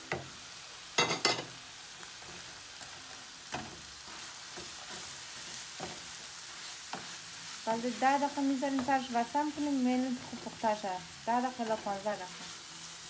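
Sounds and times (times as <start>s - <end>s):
meat sizzling in a frying pan: 0.0s - 13.0s
wooden spoon scraping a pan: 1.2s - 13.0s.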